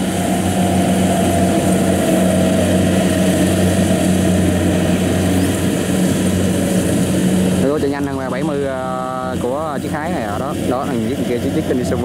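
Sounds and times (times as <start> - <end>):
combine harvester engine hum: 0.0 - 12.0
machinery whine: 0.0 - 12.0.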